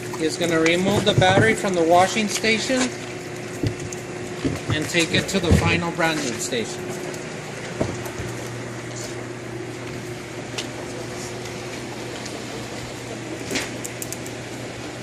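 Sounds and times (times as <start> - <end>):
low electrical drone: 0.0 - 15.0.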